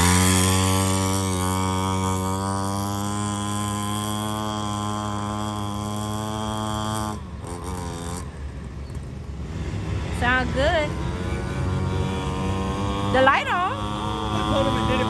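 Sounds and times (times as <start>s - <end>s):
small engine buzzing drone: 0.0s - 15.0s.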